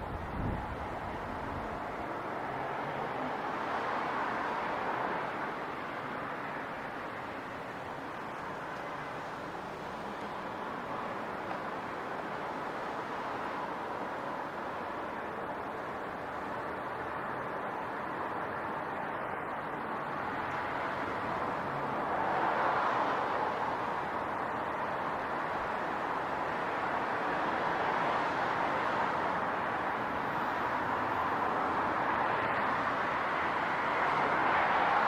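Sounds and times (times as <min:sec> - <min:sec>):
passing vehicles: 0:00.0 - 0:35.0.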